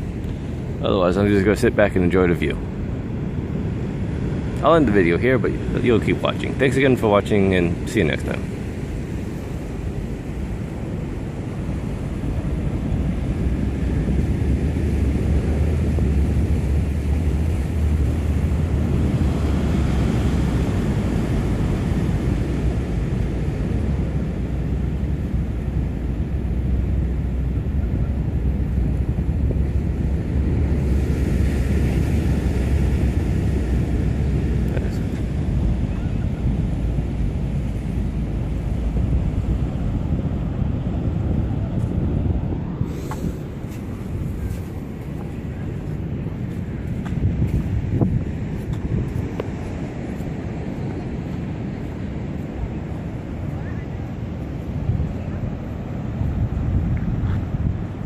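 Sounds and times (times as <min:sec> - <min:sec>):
ocean surf breaking: 0:00.0 - 0:58.0
wind buffeting microphone: 0:00.0 - 0:58.0.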